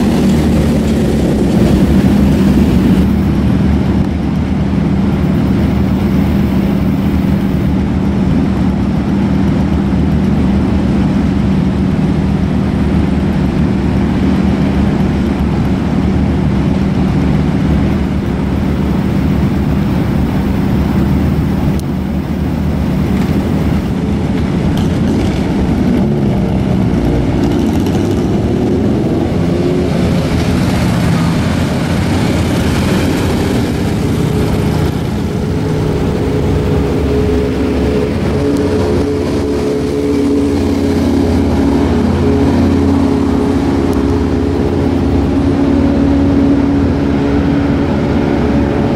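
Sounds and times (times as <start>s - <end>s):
motorcycle engines idling and revving: 0.0s - 48.9s.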